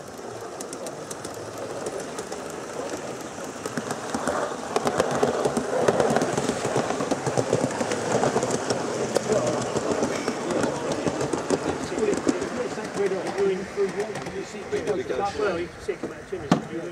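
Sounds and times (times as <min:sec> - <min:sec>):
model train wheels clacking: 0:00.0 - 0:16.8.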